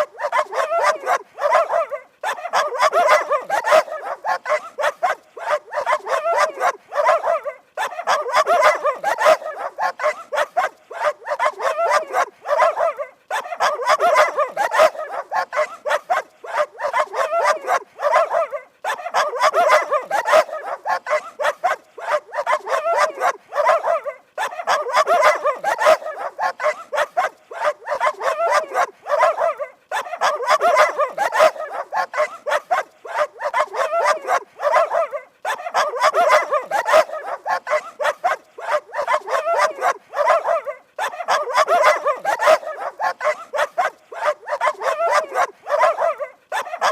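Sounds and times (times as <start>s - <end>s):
dog barking rapidly: 0.0s - 46.9s.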